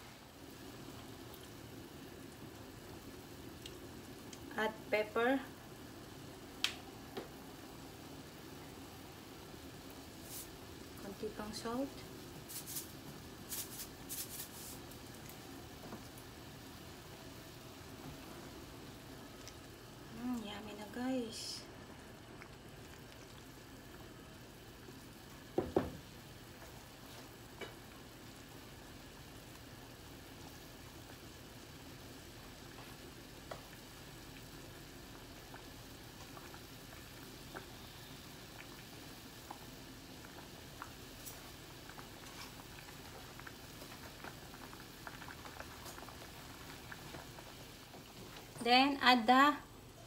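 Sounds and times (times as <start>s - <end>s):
soup bubbling at a boil: 0.0s - 50.0s.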